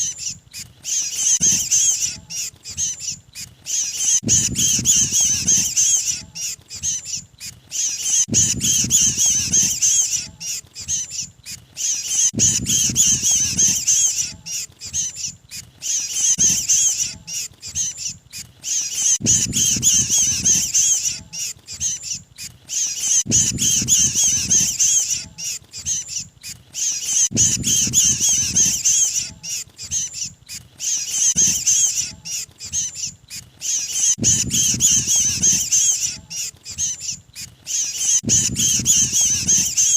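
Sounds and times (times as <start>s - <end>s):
bird distress squawks: 0.0s - 39.9s.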